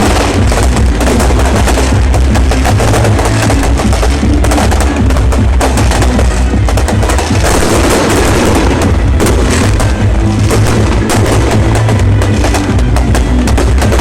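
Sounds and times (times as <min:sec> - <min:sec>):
fireworks bangs and crackles: 0:00.0 - 0:14.0
loud music with heavy bass: 0:00.0 - 0:14.0.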